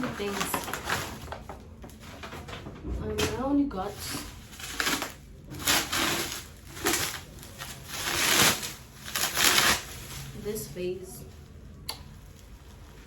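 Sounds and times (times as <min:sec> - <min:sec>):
plastic bag crinkling: 0:00.0 - 0:02.5, 0:03.2 - 0:13.0.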